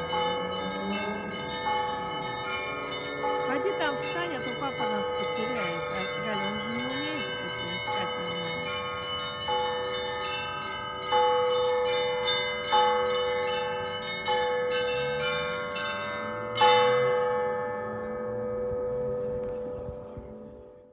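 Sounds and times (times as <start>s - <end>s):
small bells ringing rapidly: 0.0s - 19.2s.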